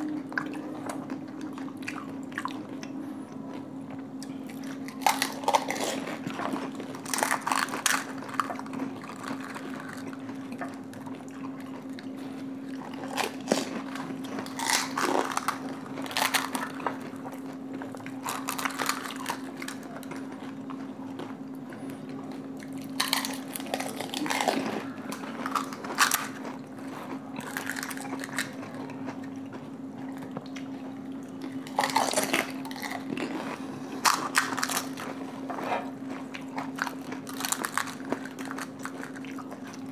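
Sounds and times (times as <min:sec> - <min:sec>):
chewing: 0:00.0 - 0:39.9
crunching of crisp shells: 0:04.2 - 0:29.6, 0:31.4 - 0:39.9.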